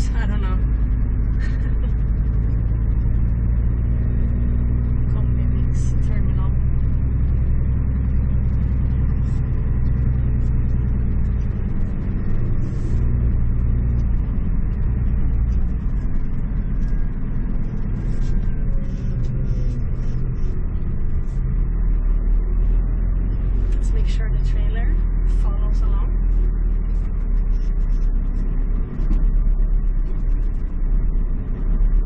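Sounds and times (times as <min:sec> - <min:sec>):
truck diesel engine drone: 0:00.0 - 0:32.0.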